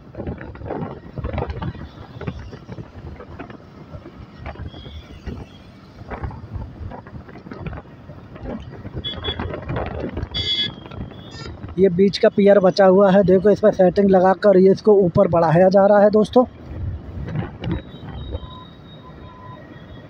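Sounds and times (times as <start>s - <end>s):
road traffic passing: 0.0s - 20.0s
wind gusting on microphone: 0.0s - 20.0s.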